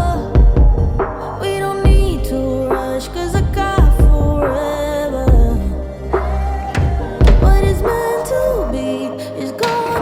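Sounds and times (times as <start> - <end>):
music with heavy bass beat: 0.0 - 8.8
person singing: 0.0 - 10.0.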